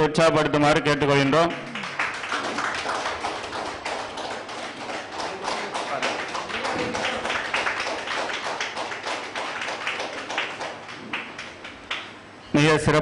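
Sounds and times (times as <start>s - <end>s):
audience applauding: 1.4s - 12.2s.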